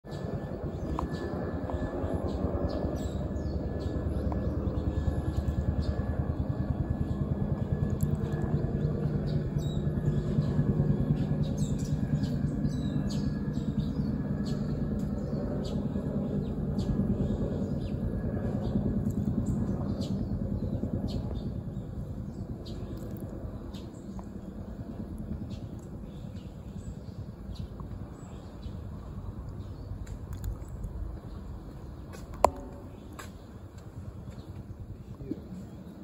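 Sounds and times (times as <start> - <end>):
low rumble with faint hum: 0.1 - 36.0
small birds chirping: 0.1 - 36.0.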